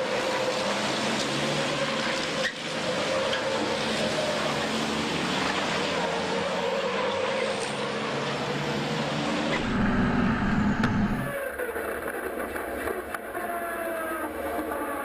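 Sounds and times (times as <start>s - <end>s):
diesel truck engines racing: 0.0s - 15.0s.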